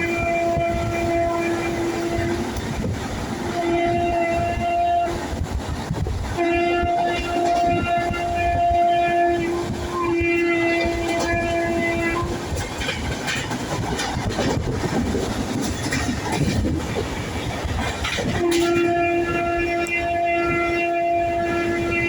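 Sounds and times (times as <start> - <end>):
train horn blast: 0.0 - 14.6, 17.7 - 22.0
wheels clicking over rails: 0.0 - 20.3
moving train rumble: 0.0 - 22.0.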